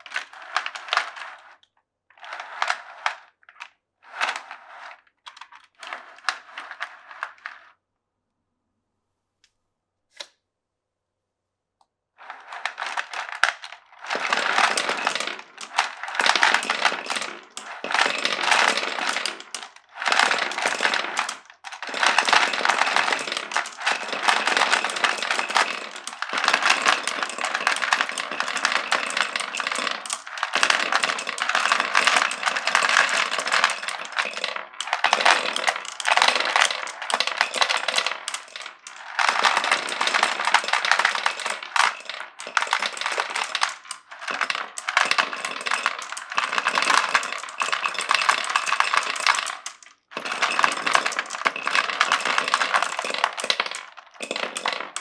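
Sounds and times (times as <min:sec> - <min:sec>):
marbles clattering down wooden run: 0:00.0 - 0:01.4, 0:02.2 - 0:03.3, 0:12.2 - 0:55.0.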